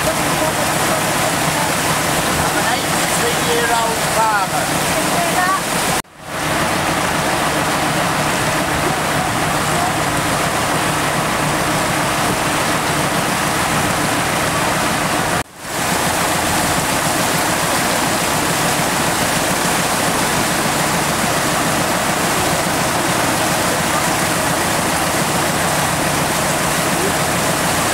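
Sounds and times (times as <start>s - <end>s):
vehicle driving through floodwater: 0.0s - 27.9s.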